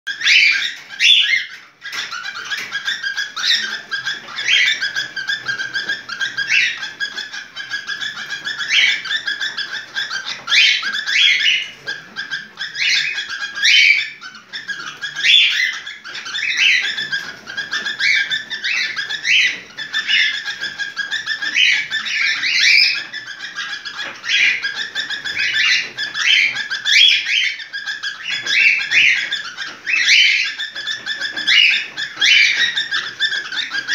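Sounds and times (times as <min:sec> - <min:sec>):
cockatiel chirping and whistling: 0:00.1 - 0:33.9.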